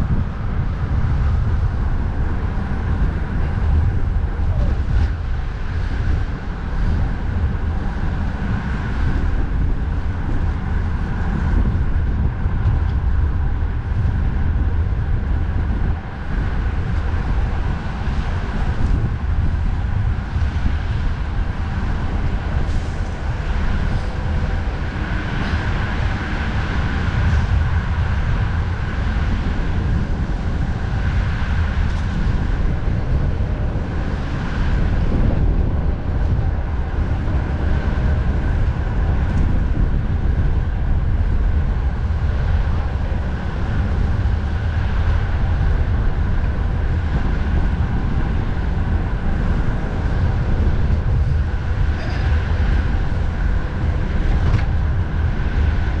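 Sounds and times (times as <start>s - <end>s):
road traffic noise: 0.0s - 56.0s
wind rumble on microphone: 0.0s - 56.0s.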